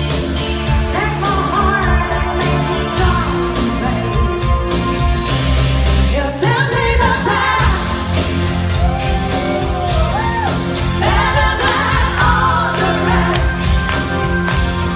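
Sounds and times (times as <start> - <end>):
live pop-rock band: 0.0 - 14.9.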